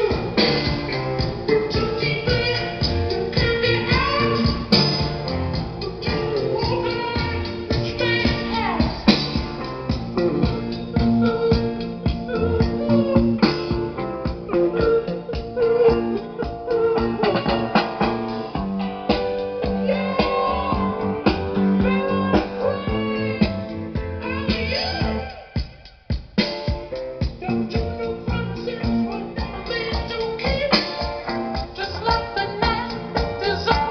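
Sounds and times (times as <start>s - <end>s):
song with guitar and singing: 0.0s - 33.9s.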